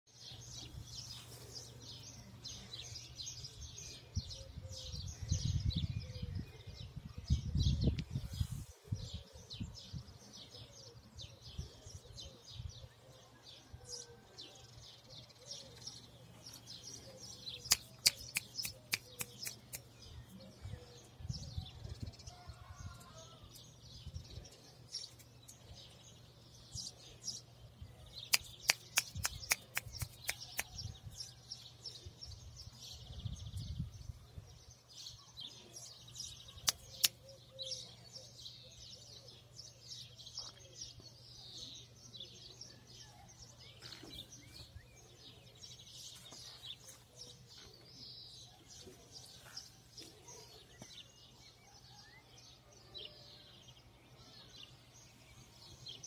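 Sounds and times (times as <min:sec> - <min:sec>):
small birds chirping: 0:00.1 - 0:56.0.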